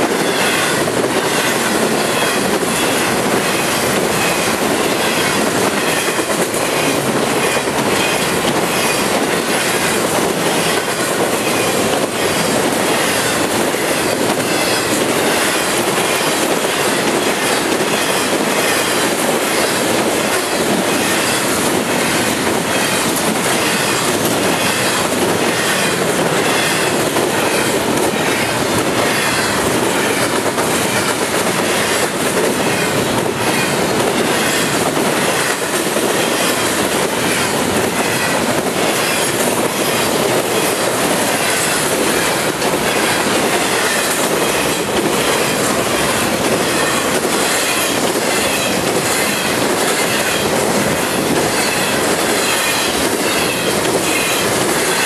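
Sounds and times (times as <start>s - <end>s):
freight train wheels on rail: 0.0s - 55.0s.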